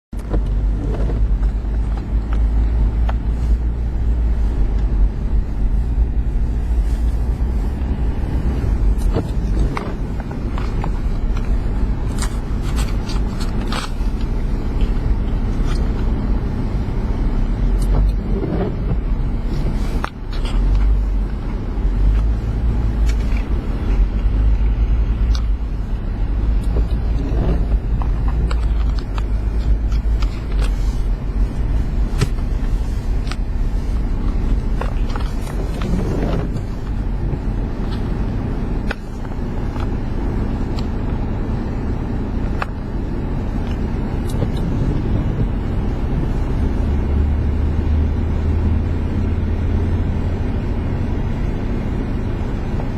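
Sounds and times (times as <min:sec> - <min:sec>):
vehicle engine rumbling: 0:00.0 - 0:52.9.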